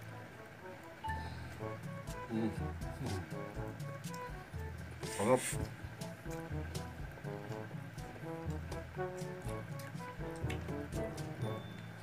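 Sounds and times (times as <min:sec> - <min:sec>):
background music with light beat: 0:00.0 - 0:12.0.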